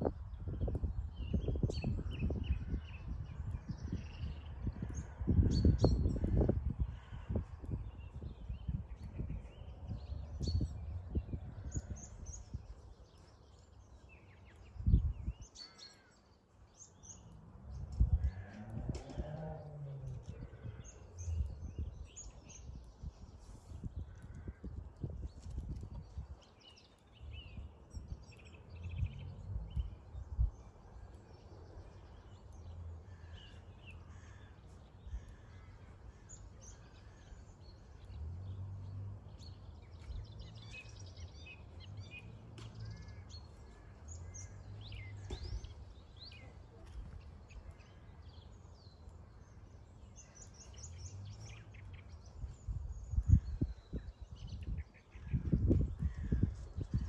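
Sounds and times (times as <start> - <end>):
birds chirping and calling: 0.1 - 57.0.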